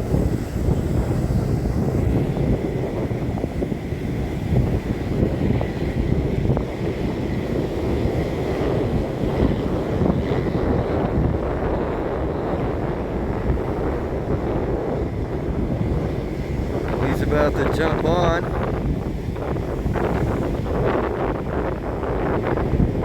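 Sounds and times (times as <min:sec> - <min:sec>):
ocean surf: 0:00.0 - 0:23.0
wind buffeting microphone: 0:00.0 - 0:23.0.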